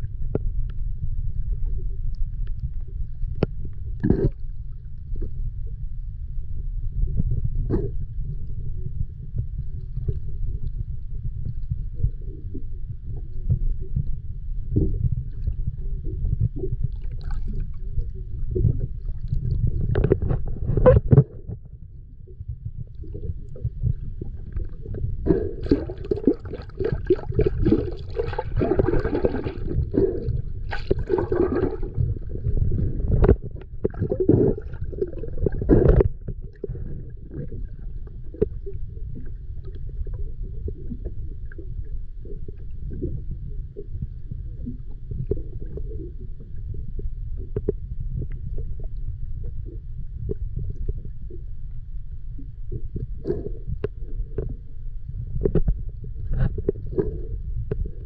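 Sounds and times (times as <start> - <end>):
underwater rumble of moving water: 0.0 - 58.0
gurgling bubbles: 1.3 - 5.5, 7.0 - 58.0.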